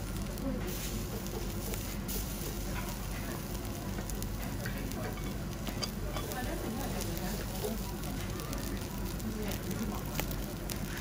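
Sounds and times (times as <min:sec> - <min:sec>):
beef sizzling on a grill: 0:00.0 - 0:11.0
fat crackling and popping: 0:00.0 - 0:11.0.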